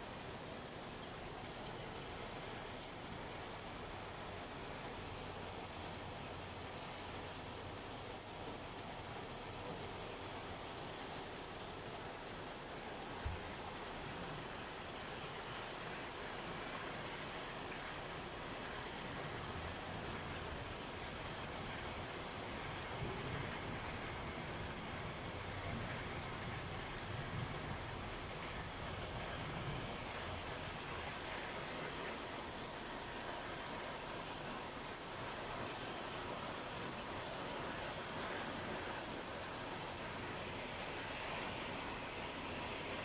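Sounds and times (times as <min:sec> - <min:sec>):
heavy rain on wet ground: 0:00.0 - 0:43.0.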